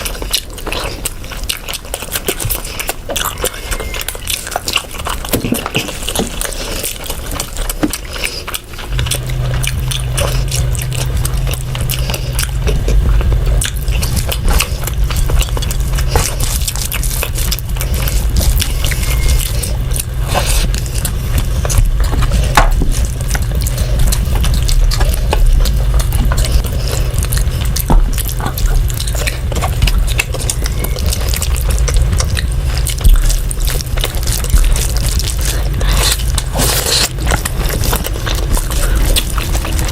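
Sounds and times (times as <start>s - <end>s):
steady low hum: 0.0s - 39.9s
wet eating sounds: 0.0s - 39.9s.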